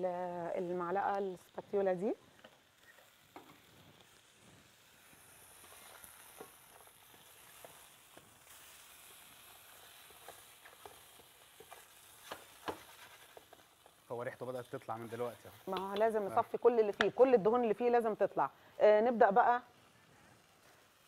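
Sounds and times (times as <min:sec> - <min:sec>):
sausages sizzling in pan: 0:00.0 - 0:21.0.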